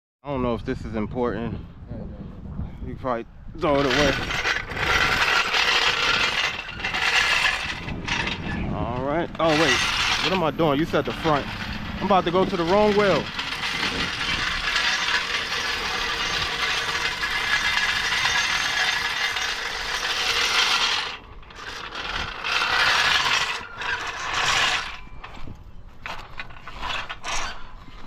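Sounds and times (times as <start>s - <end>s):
tire tool ratcheting rattle: 3.6s - 28.0s.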